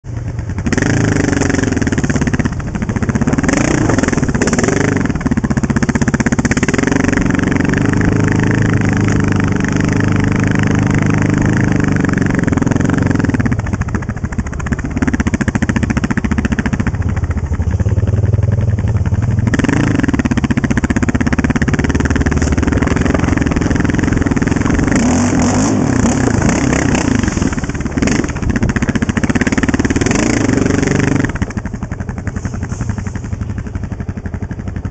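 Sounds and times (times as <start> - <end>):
quad engine revving: 0.1 - 34.9.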